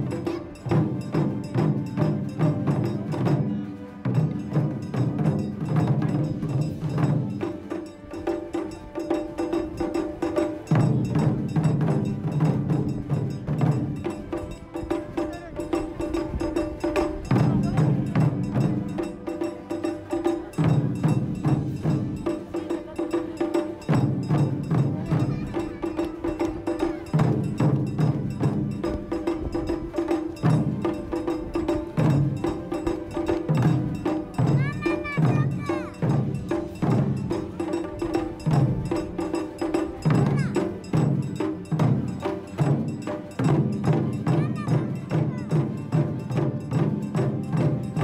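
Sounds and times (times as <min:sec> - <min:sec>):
taiko drumming: 0:00.0 - 0:48.0.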